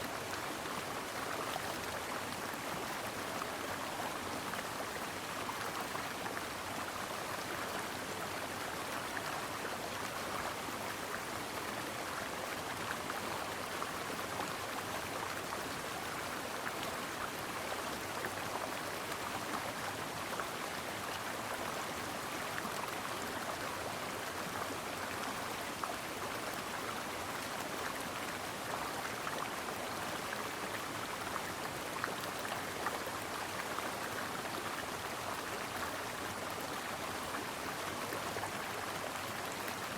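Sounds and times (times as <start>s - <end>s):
brook water flowing: 0.0s - 39.9s.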